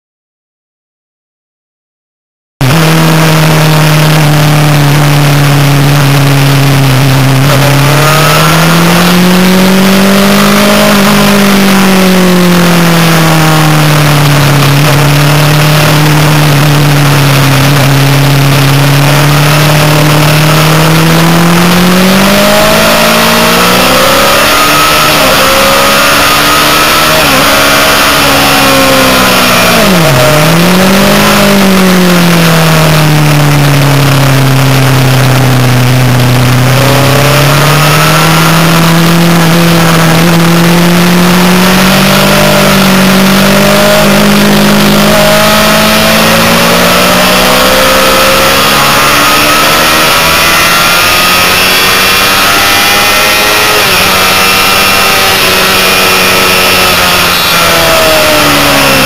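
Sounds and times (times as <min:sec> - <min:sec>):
motorcycle engine running hard: 0:02.6 - 0:59.0.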